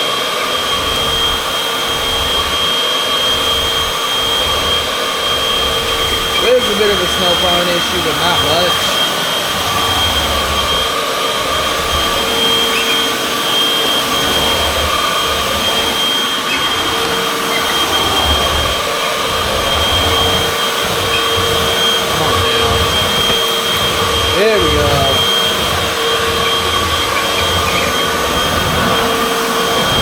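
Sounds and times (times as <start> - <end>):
vacuum cleaner motor whine: 0.0 - 30.0
vacuum rumble over floor: 0.4 - 30.0.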